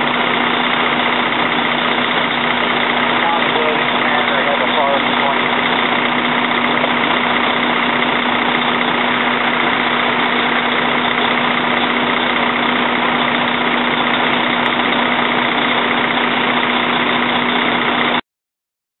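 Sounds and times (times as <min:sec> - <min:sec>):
truck engine humming: 0:00.0 - 0:18.2.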